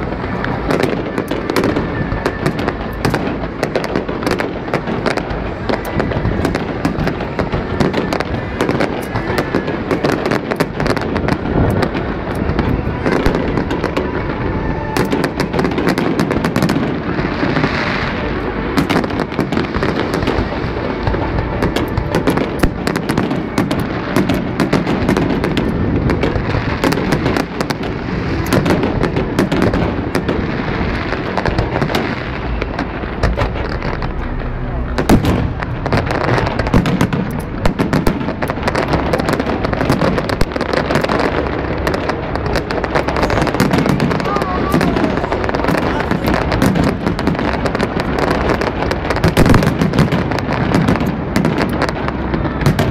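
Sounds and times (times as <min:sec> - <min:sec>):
steady low rumble: 0:00.0 - 0:52.9.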